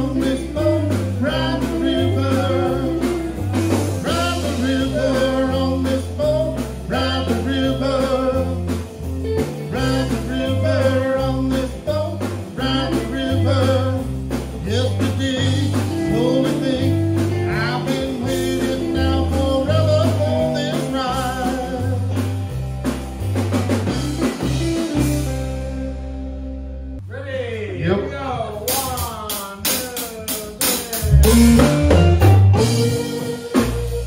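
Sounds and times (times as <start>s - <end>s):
person singing: 0.0s - 22.2s, 28.7s - 34.0s
drum beat: 0.0s - 25.4s, 28.6s - 34.0s
electric guitars: 0.0s - 27.0s, 30.6s - 34.0s
electric bass line: 0.0s - 29.3s, 31.0s - 34.0s.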